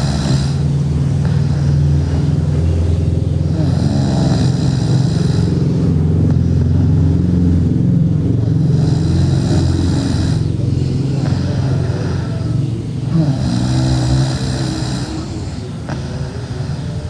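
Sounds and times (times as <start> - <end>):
girl snoring: 0.0 - 17.0.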